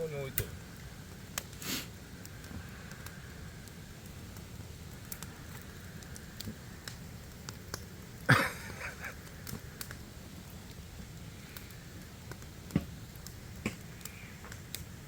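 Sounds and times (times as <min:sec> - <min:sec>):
campfire wood crackling: 0:00.0 - 0:15.0
fire pops: 0:00.0 - 0:15.0.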